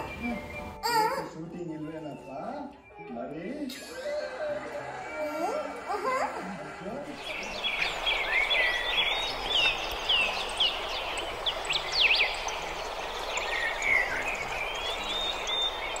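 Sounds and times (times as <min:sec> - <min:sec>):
birds chirping: 0:00.0 - 0:16.0
outdoor background hiss: 0:00.0 - 0:16.0.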